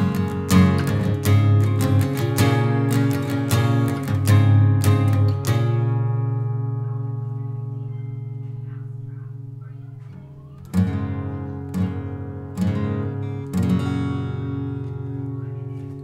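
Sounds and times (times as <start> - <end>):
acoustic guitar chords strummed: 0.0 - 16.0.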